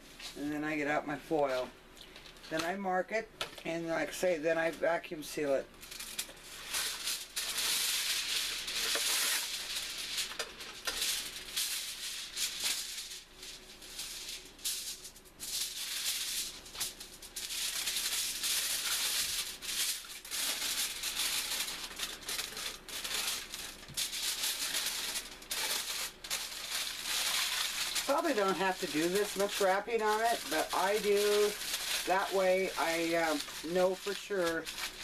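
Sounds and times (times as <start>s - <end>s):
aluminum foil crinkling: 3.4s - 35.0s.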